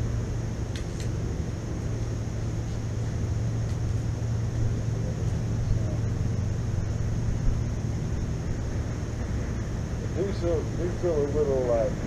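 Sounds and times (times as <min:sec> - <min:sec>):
constant low hum: 0:00.0 - 0:12.0
low background rumble: 0:00.0 - 0:12.0.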